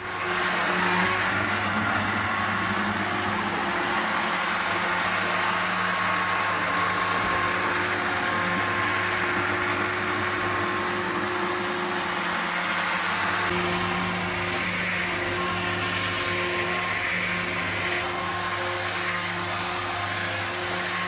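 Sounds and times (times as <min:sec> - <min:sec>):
immersion blender running: 0:00.0 - 0:21.0.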